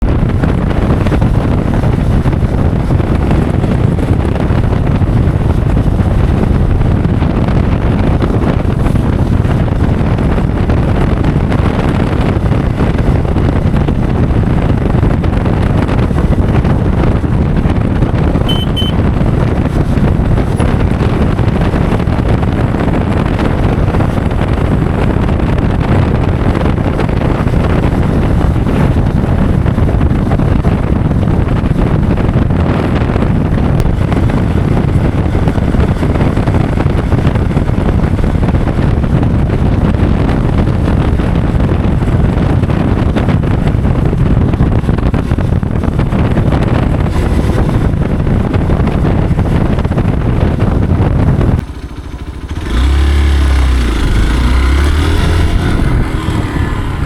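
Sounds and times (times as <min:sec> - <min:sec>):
low motorcycle rumble: 0:00.0 - 0:57.0
wind buffeting microphone: 0:00.0 - 0:57.0.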